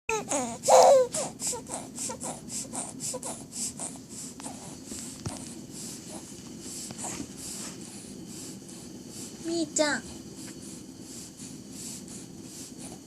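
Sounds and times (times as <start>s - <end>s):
baby hissing breaths: 0.1s - 13.0s.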